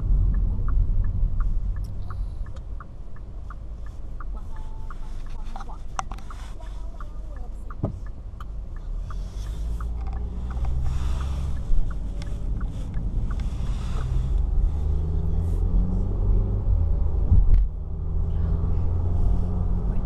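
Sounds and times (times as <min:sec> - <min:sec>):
turn signal ticking: 0:00.0 - 0:17.9
car engine accelerating: 0:00.0 - 0:20.0.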